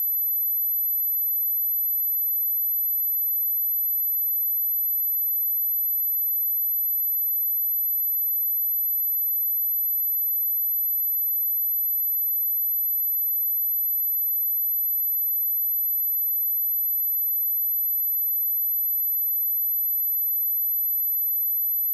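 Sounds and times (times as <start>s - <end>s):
high-pitched sine test tone: 0.0s - 21.9s.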